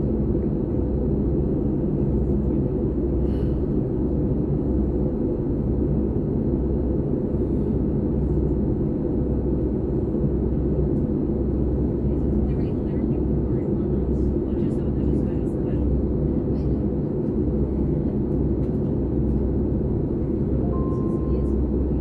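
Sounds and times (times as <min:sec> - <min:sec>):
train cabin low rumble: 0:00.0 - 0:22.0.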